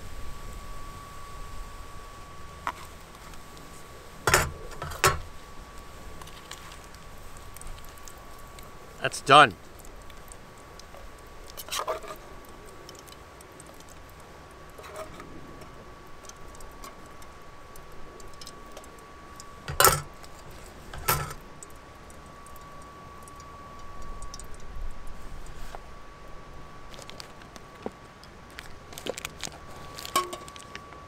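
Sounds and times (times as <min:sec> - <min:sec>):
fire crackling: 0:00.0 - 0:31.0
stove fan humming: 0:00.0 - 0:31.0.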